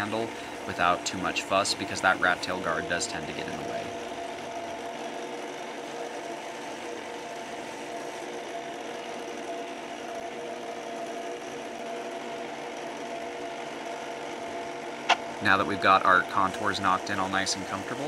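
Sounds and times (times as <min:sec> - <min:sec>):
belt sander humming: 0:00.0 - 0:18.0.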